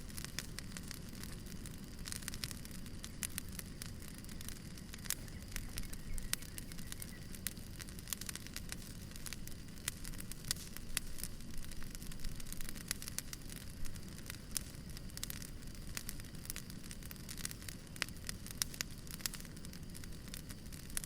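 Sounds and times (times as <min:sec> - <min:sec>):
firewood crackling and popping: 0:00.0 - 0:21.0
wood fire rumbling: 0:00.0 - 0:21.0.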